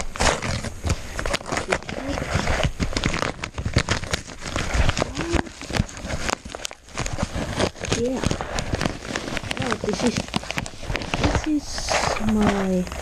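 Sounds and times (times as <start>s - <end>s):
package crinkling and tearing: 0.0s - 13.0s.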